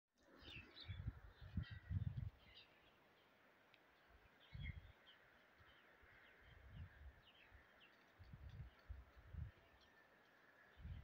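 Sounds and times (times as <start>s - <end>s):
small songbirds chirping: 0.2s - 11.0s.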